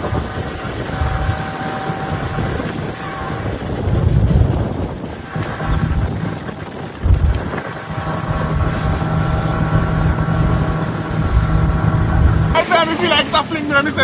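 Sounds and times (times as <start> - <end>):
motorboat engine running: 0.0 - 14.0
wind gusting against microphone: 0.0 - 14.0.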